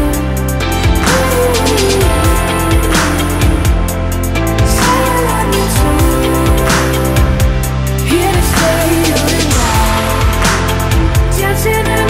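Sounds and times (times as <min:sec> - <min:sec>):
pop music with drums: 0:00.0 - 0:12.0.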